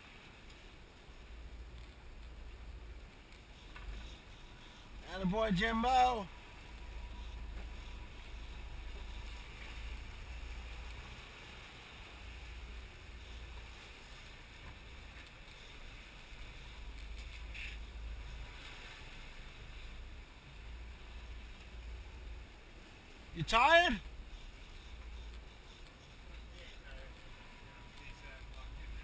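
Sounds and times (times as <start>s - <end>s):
boat engines rumbling: 0.0s - 29.0s
water wash: 0.0s - 29.0s
wind: 0.0s - 29.0s.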